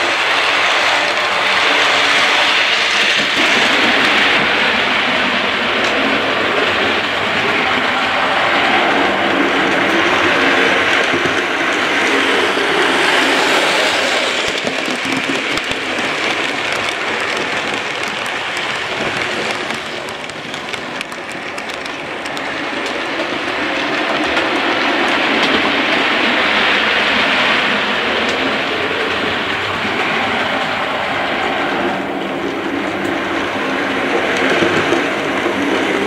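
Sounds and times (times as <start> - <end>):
model train rumbling on track: 0.0 - 36.0
rail clicks: 0.0 - 36.0.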